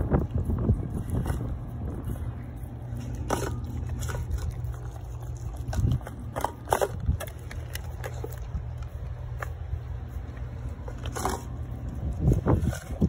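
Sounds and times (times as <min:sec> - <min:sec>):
dog chewing and biting food: 0:00.0 - 0:13.0.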